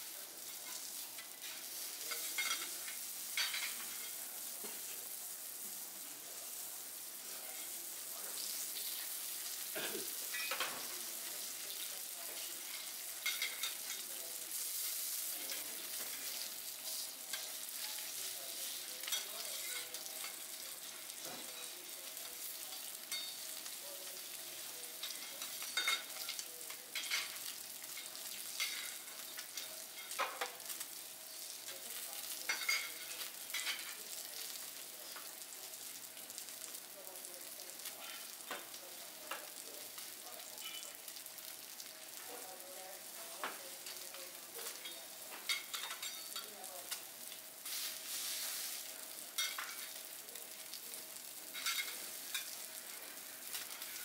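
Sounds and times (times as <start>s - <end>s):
food sizzling on a griddle: 0.0s - 54.0s.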